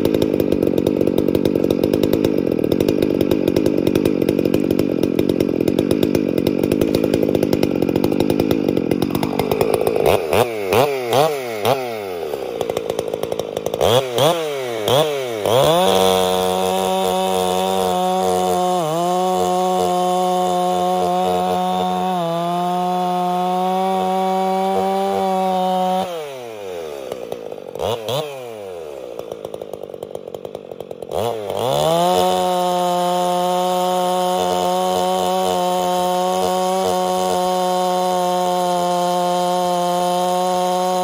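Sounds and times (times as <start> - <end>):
chainsaw cutting log: 0.0 - 41.0
chainsaw revving: 0.0 - 41.0.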